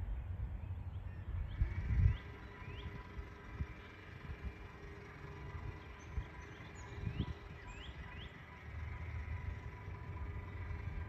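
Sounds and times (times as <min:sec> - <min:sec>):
low outdoor rumble: 0:00.0 - 0:11.0
bird chirping: 0:00.6 - 0:11.0.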